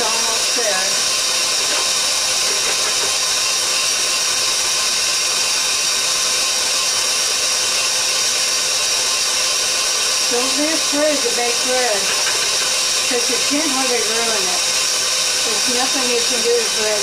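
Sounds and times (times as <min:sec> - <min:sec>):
electric stand mixer running: 0:00.0 - 0:17.0.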